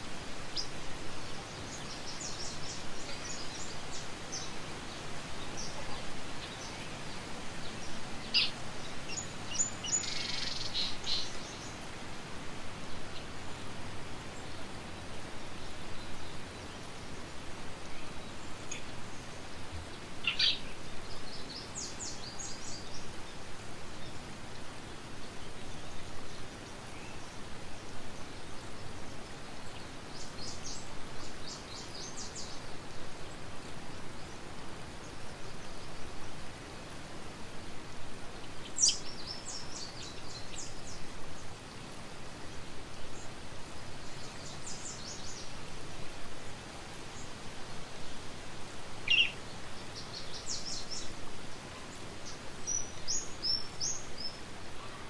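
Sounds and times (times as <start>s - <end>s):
songbird chirping: 0.0s - 55.0s
steady background hiss: 0.0s - 55.0s.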